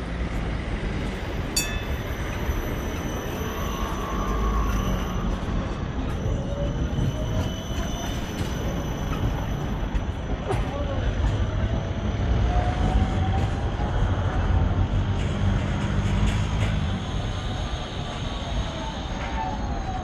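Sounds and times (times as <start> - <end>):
tram rumble: 0.0 - 20.0.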